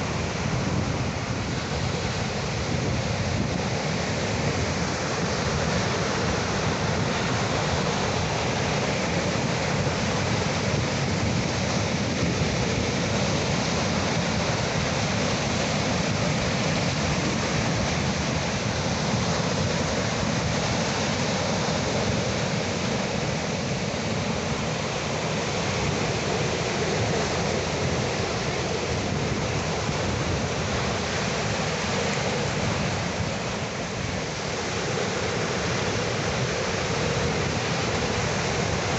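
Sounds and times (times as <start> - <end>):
sea surf rushing: 0.0 - 38.9.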